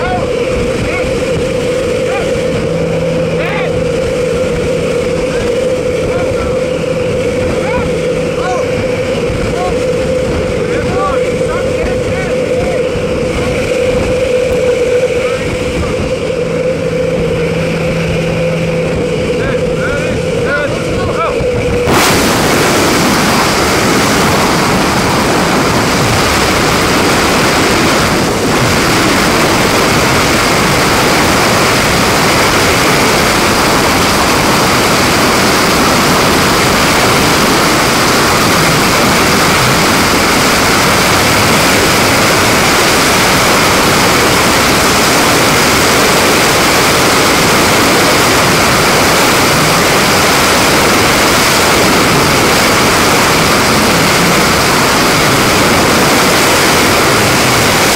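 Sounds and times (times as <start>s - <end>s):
wind rushing over microphone: 0.0s - 57.9s.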